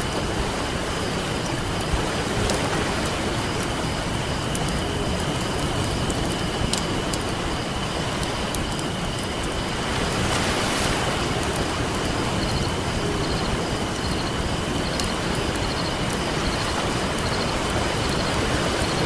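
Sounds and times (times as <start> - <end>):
ocean surf rushing: 0.0 - 19.0
campfire crackling and popping: 0.1 - 18.9.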